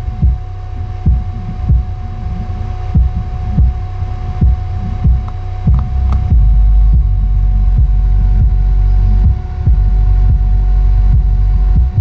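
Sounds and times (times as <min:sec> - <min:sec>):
deep kick-drum thumps: 0:00.0 - 0:02.0, 0:03.0 - 0:12.0
subwoofer playing hip-hop bass: 0:00.0 - 0:12.0.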